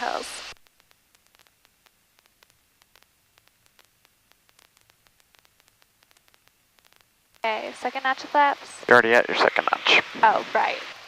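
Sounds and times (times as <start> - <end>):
faint static hiss: 0.0 - 11.0
crackling clicks: 0.4 - 9.8.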